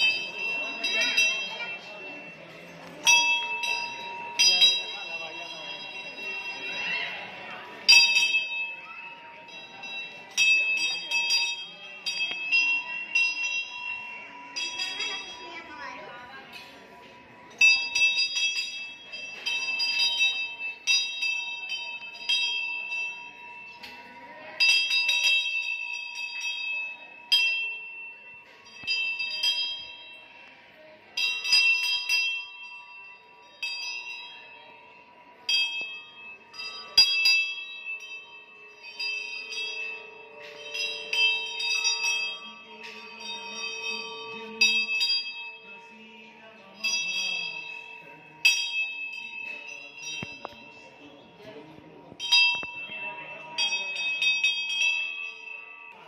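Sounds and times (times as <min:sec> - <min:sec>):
temple bell ringing: 0:00.0 - 0:56.0.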